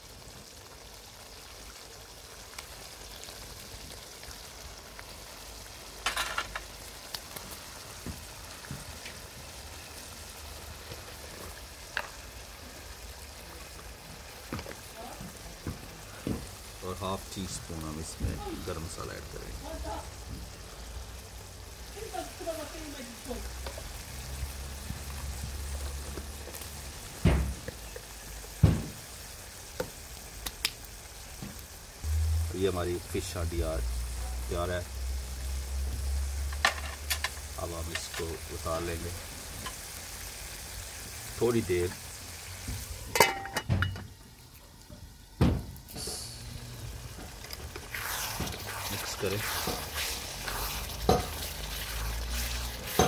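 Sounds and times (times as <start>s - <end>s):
curry sizzling and popping: 0.0s - 53.0s.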